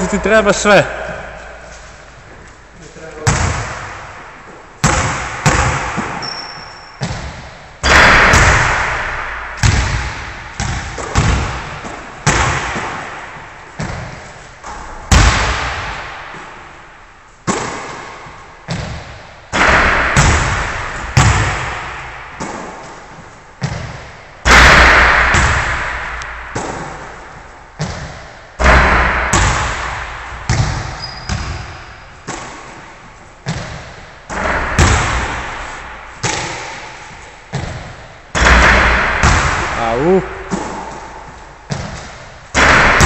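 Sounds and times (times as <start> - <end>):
basketball bouncing in echoing gym: 0.0 - 43.0.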